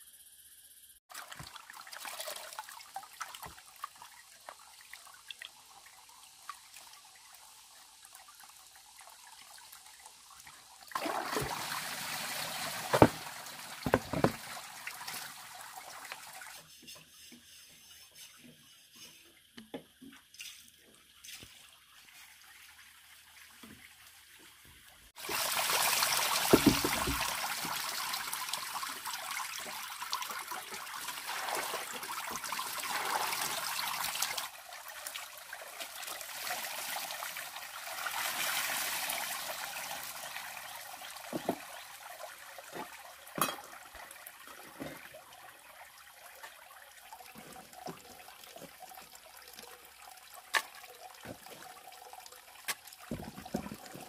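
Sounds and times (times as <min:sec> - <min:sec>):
water pouring and trickling: 0:01.1 - 0:54.0.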